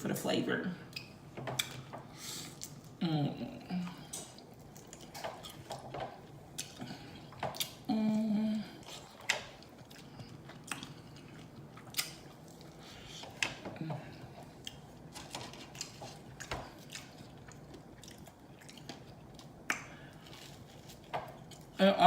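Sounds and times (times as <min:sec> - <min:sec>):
chewing and crunching: 0:03.9 - 0:21.8.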